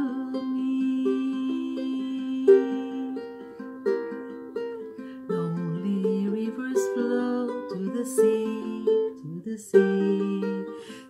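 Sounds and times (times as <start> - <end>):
ukulele plucked chords: 0.0 - 11.0.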